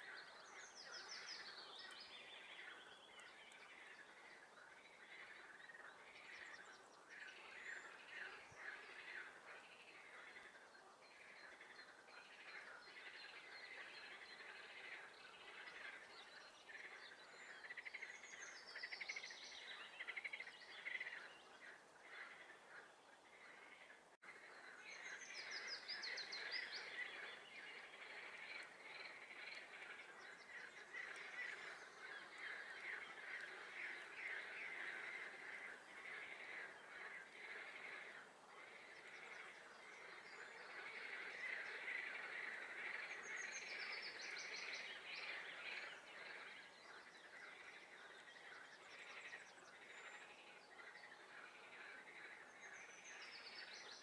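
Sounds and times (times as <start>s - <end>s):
songbird singing: 0.0s - 54.0s
frogs croaking in chorus: 2.6s - 6.4s, 7.1s - 54.0s.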